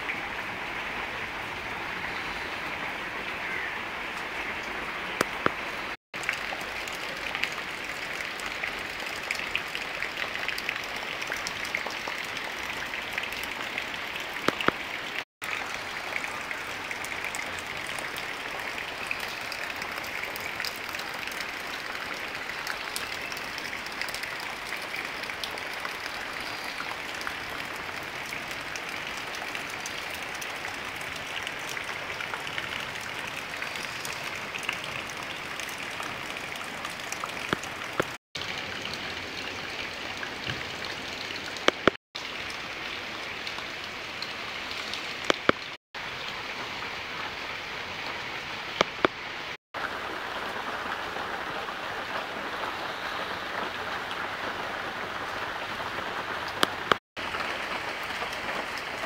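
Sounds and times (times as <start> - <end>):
rain falling on vegetation: 0.0 - 59.0.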